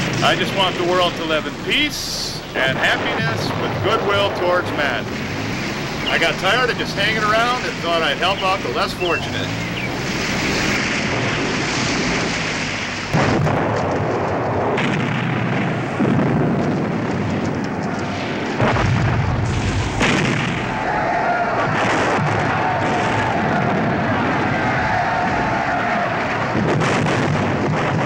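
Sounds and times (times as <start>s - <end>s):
explosions: 0.0s - 28.0s
gunfire: 0.0s - 28.0s.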